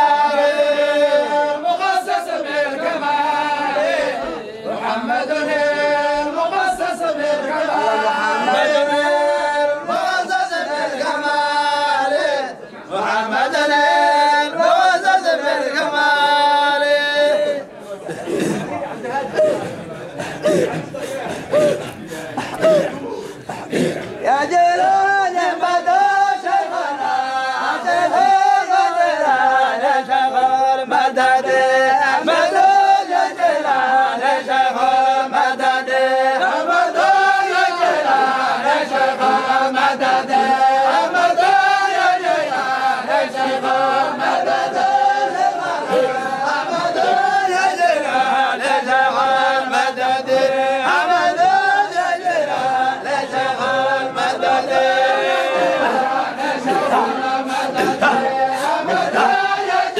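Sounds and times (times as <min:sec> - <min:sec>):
men chanting in unison: 0:00.0 - 0:59.9.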